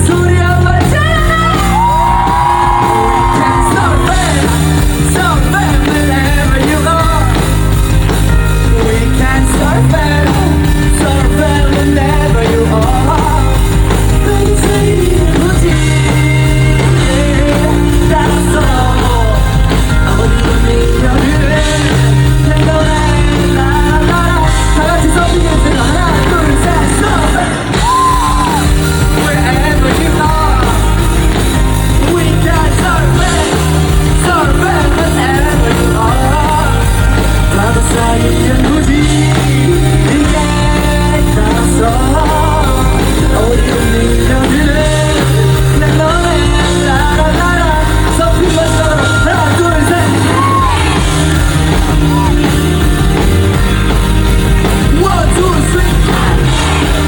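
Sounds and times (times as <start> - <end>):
wordless singing or shouts: 0.0 - 7.5, 14.2 - 52.8, 54.8 - 57.0
live pop-rock band playing: 0.0 - 57.0.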